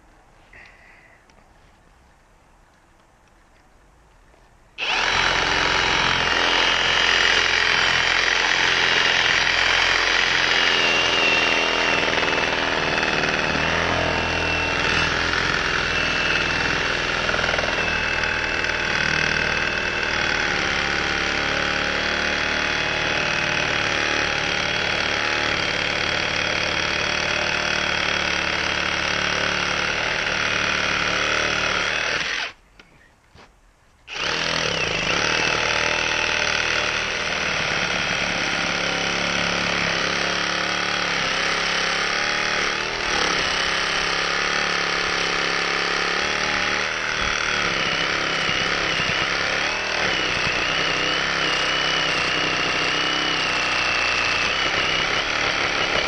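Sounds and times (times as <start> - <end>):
reciprocating saw cutting wood: 4.8 - 32.6, 34.1 - 56.0.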